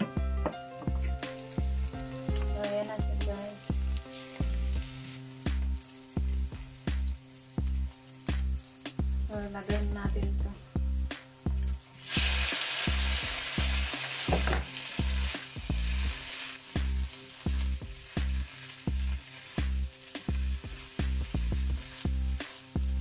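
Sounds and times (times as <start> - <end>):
background music with steady beat: 0.0 - 23.0
potatoes sizzling in oil: 0.8 - 23.0.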